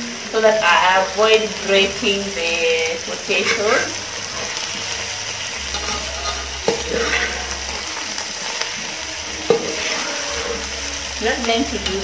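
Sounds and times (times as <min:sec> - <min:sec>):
potatoes sizzling in pot: 0:00.0 - 0:12.0.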